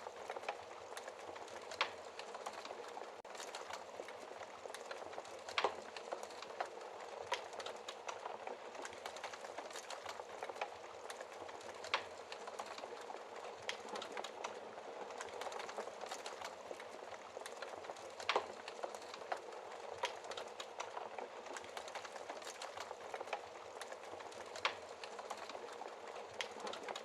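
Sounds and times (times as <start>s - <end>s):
steady hiss of fire: 0.0s - 27.0s
wood fire crackling: 0.0s - 27.0s.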